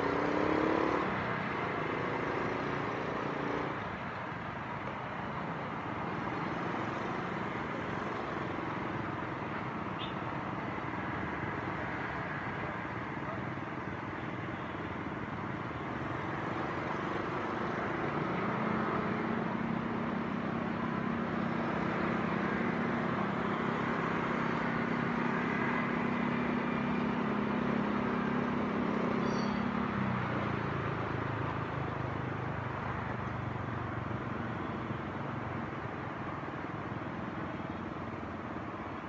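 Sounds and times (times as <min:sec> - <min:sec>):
road and wind noise: 0:00.0 - 0:39.0.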